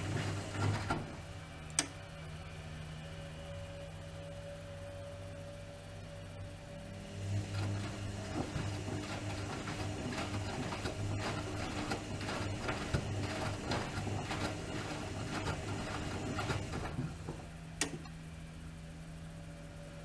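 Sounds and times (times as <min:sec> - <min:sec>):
washing machine motor pulsing: 0:00.0 - 0:20.0.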